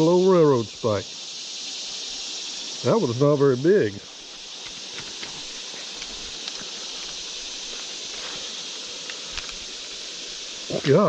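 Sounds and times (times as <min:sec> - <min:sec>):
high insect buzz: 0:00.0 - 0:11.0.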